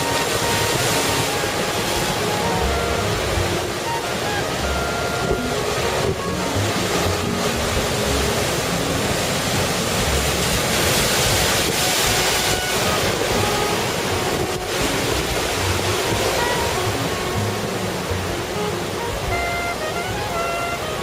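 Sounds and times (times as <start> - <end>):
wind buffeting microphone: 0.0 - 19.4
heavy surf breaking: 0.0 - 21.0.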